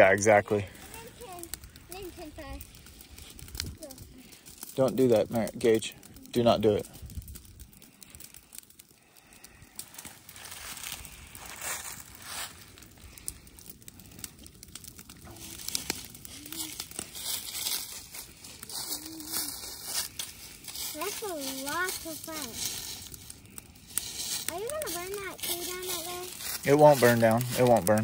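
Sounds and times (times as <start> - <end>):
brush fire crackling: 0.0 - 28.0.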